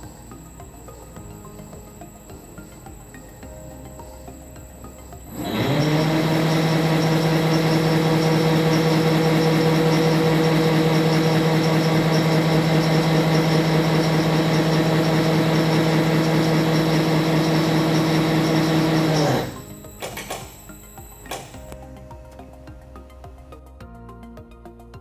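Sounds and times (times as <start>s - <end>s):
machine drive humming: 0.0s - 23.7s.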